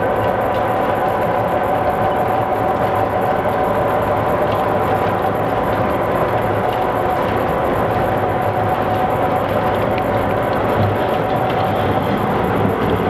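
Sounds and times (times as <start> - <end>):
motor hum and whine: 0.0 - 13.0.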